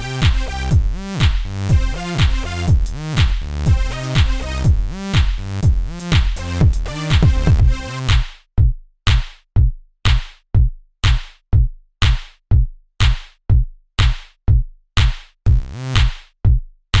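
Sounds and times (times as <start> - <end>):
drum-machine beat: 0.0 - 17.0.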